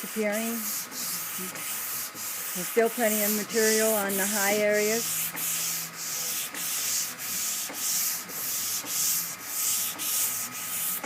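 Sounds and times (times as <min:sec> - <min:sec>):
sandpaper rubbing on car panel: 0:00.3 - 0:11.0.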